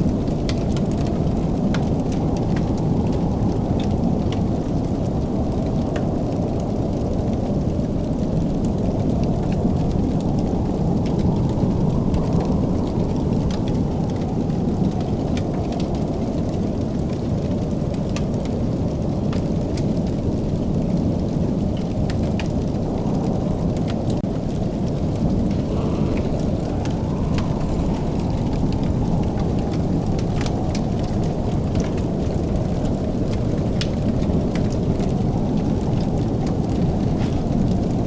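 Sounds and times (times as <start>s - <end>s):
fire crackles and pops: 0.0s - 38.0s
fire rumbling: 0.0s - 38.0s.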